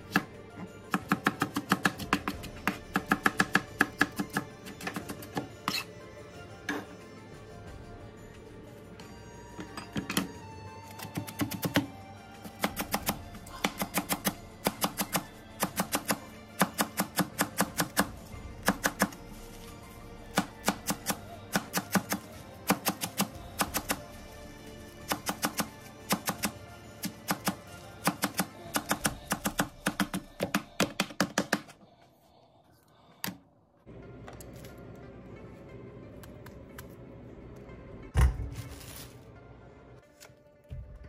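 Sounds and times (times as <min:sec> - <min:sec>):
background music: 0:00.0 - 0:41.0.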